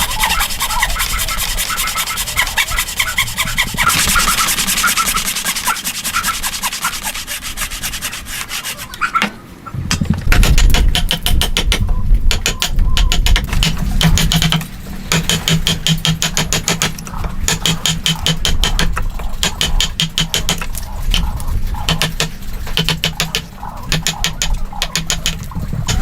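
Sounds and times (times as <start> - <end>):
fast sharp knocks: 0.0 - 26.0
steady low hum: 0.0 - 26.0.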